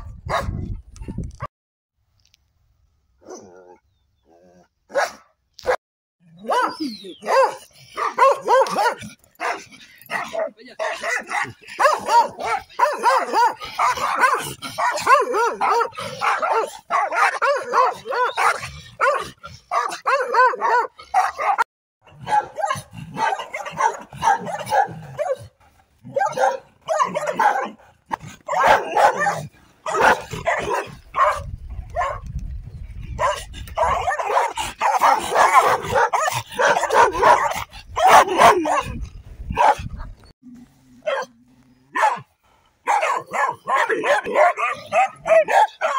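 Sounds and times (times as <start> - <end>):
dogs barking aggressively: 0.0 - 0.7, 4.9 - 5.8, 6.4 - 32.3, 33.0 - 40.0, 41.0 - 45.9.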